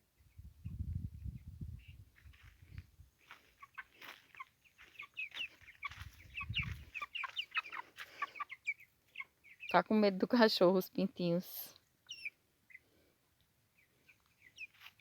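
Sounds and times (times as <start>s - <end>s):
chicks peeping and chirping: 0.2s - 15.0s.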